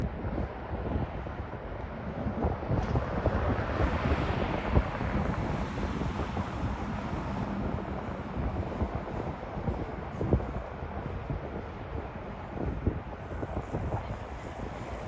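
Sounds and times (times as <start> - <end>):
rushing noise: 0.0 - 15.0
wind buffeting microphone: 0.0 - 15.0.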